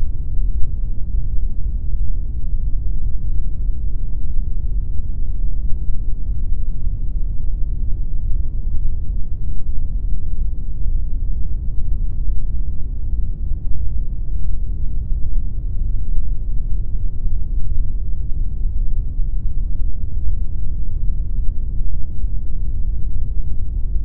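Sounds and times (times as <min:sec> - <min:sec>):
low rumbling pink noise: 0:00.0 - 0:24.0.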